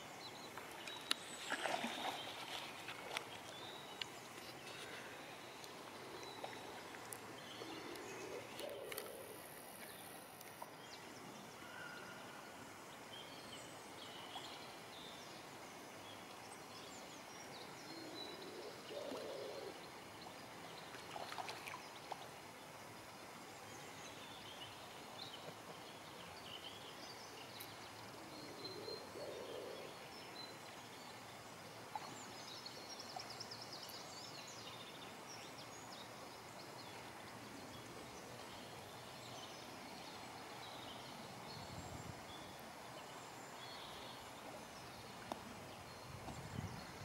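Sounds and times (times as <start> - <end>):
faint outdoor ambience: 0.0 - 47.0.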